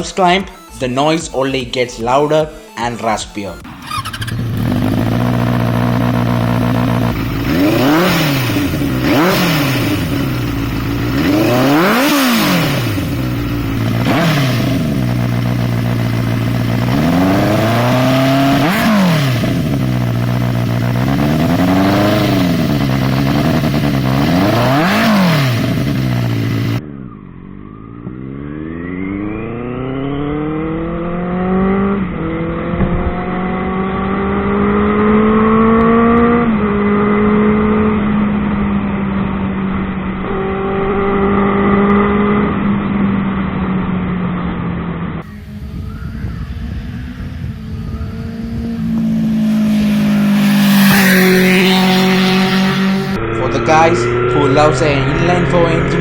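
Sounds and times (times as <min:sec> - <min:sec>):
motorcycle accelerating: 0:03.5 - 0:56.0
motorcycle engine revving: 0:03.6 - 0:56.0.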